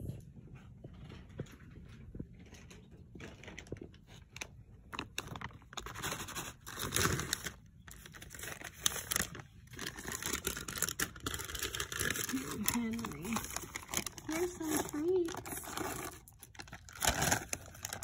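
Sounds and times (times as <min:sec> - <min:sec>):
plastic pouch crinkling: 0:03.2 - 0:18.0.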